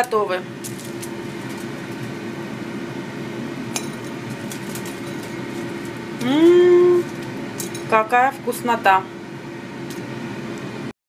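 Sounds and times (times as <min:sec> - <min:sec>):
steady hiss with low hum: 0:00.0 - 0:10.9.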